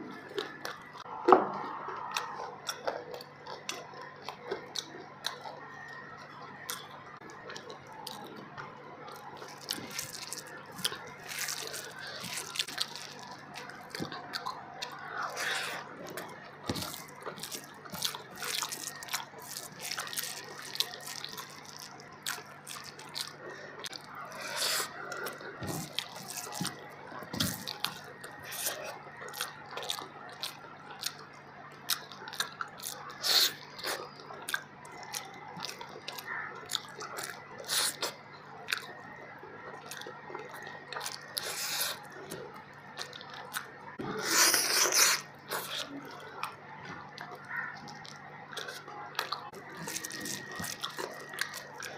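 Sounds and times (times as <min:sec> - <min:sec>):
wet smacking and chewing: 0:00.0 - 0:51.9.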